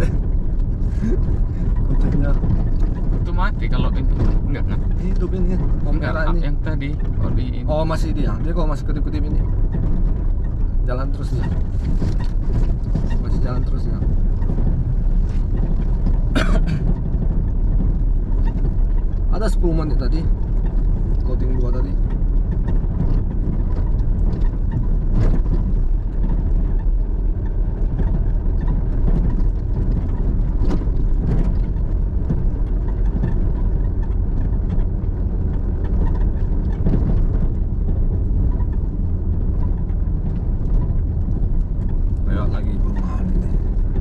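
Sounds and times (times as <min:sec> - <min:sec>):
knocks and rattles over bumps: 0:00.0 - 0:44.0
truck engine and tyre rumble: 0:00.0 - 0:44.0.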